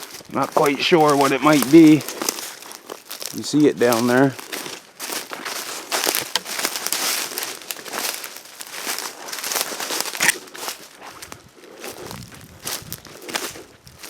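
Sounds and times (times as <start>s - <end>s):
twigs snapping: 0.0s - 11.4s
footsteps crunching through undergrowth: 0.0s - 14.0s.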